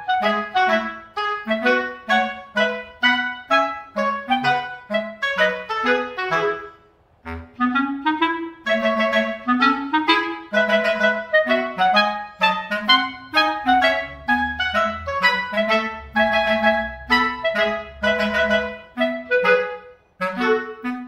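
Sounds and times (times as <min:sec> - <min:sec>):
woodwind melody: 0:00.0 - 0:21.0.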